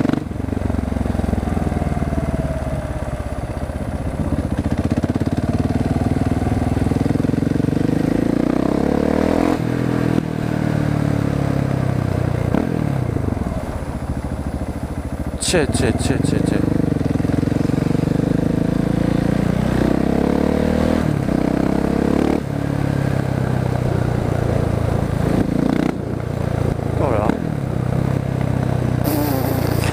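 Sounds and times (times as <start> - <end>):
motorcycle engine revving through gears: 0.0 - 29.9.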